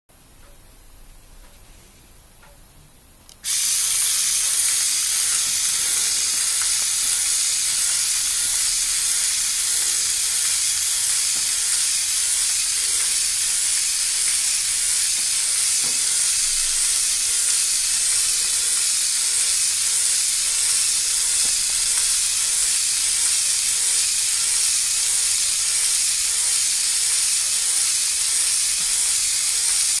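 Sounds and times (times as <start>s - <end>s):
faint regular stepping beat: 2.4s - 30.0s
electric motor hissing whir: 3.4s - 30.0s.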